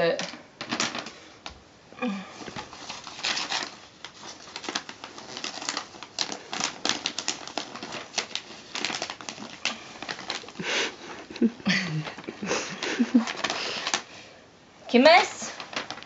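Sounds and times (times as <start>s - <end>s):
wrapping paper rustling: 0.0s - 16.0s.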